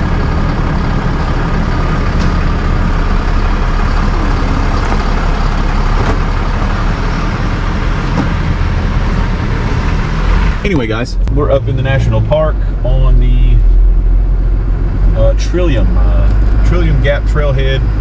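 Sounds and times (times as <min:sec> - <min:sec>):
road noise: 0:00.0 - 0:18.0
vehicle engine drone: 0:00.0 - 0:18.0.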